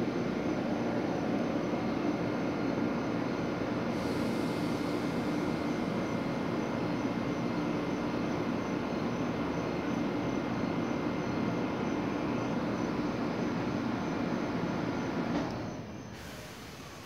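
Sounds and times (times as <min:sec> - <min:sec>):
train hum and rumble: 0:00.0 - 0:17.0.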